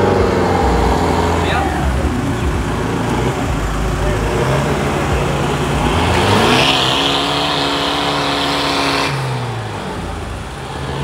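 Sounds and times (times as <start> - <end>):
engine revving hard: 0.0 - 11.0.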